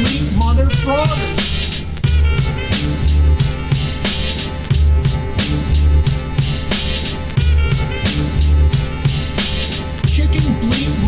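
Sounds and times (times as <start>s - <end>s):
deep bass line: 0.0s - 11.0s
hip-hop beat: 0.0s - 11.0s.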